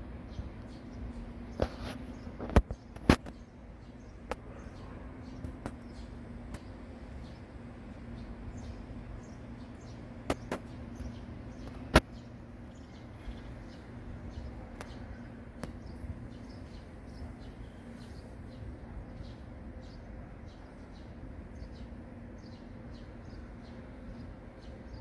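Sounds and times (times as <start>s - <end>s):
steady low hum: 0.0s - 25.0s
small birds chirping: 0.2s - 25.0s.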